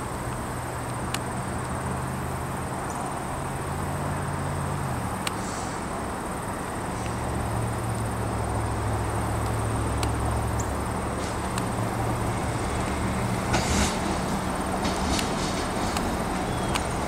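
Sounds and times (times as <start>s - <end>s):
diesel locomotive hum: 0.0s - 17.0s.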